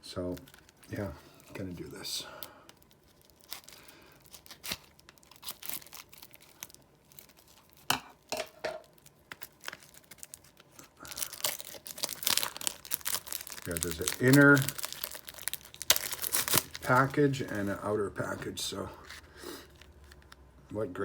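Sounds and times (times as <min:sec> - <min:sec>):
wrapper tearing and crinkling: 0:00.2 - 0:01.8, 0:02.7 - 0:17.9, 0:19.0 - 0:20.4.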